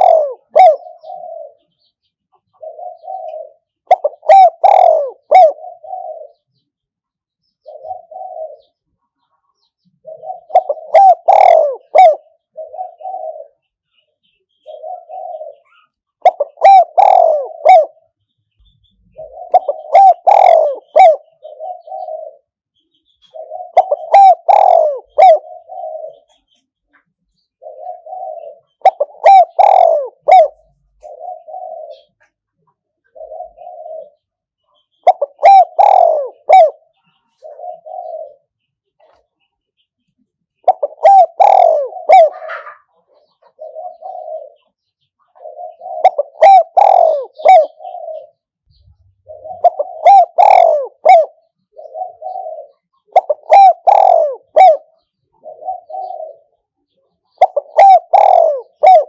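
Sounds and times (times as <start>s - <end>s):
dove cooing: 0.0s - 6.6s, 7.6s - 22.6s, 23.2s - 26.6s, 27.4s - 39.4s, 40.6s - 59.0s.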